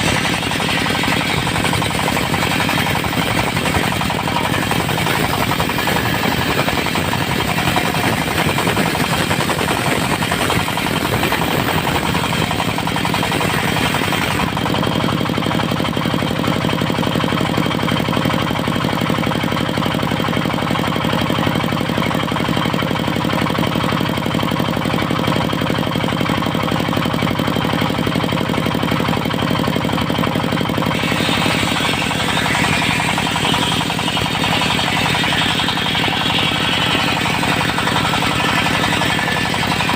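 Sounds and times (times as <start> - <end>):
saw blade cutting wood: 0.0 - 22.8, 27.6 - 39.9
diesel engine knocking: 0.0 - 39.9.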